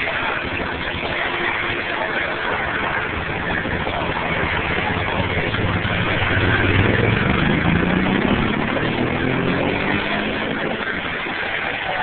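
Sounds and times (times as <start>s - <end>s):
engine running: 0.0s - 12.0s
steady noise: 0.0s - 12.0s.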